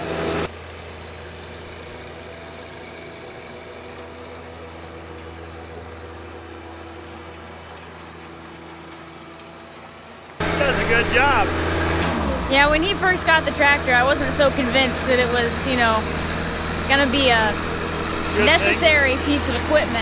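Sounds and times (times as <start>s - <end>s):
tractor diesel engine humming: 0.0s - 20.0s.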